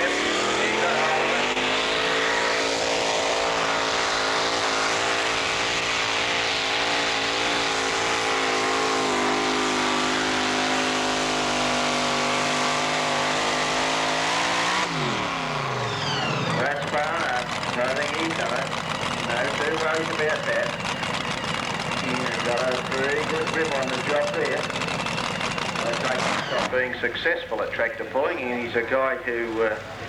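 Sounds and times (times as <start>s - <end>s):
tractor engine running flat out: 0.0s - 30.0s.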